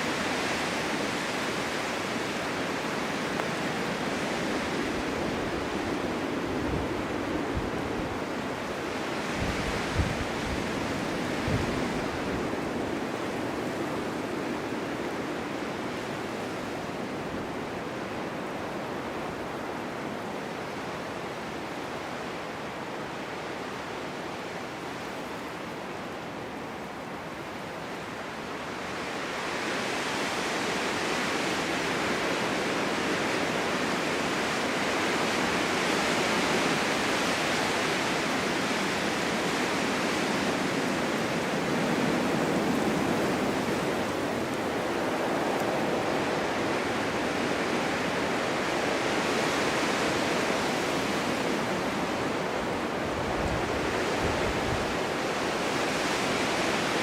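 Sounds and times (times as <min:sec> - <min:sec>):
snowstorm wind blowing: 0:00.0 - 0:57.0.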